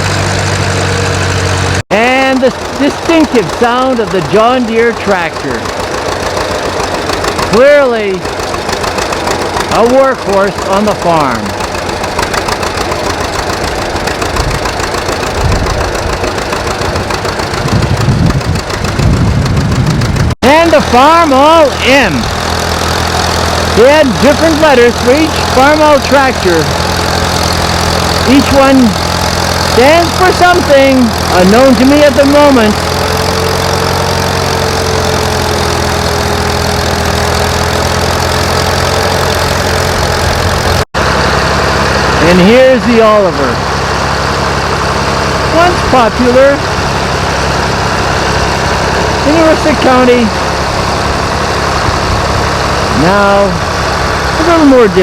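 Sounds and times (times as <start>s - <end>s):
tractor engine knocking: 0.0s - 55.0s.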